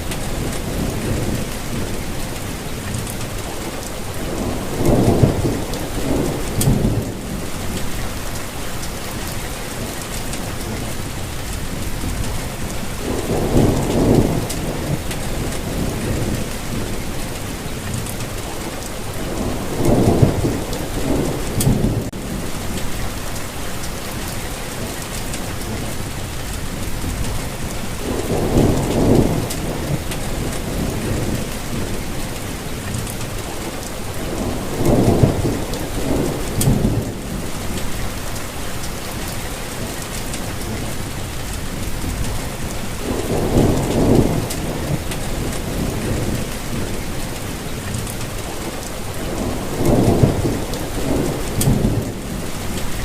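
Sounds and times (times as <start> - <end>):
steady rain falling: 0.0 - 53.0
distant thunder rumbling: 2.9 - 10.9, 11.8 - 24.8, 26.7 - 39.4, 40.5 - 53.0.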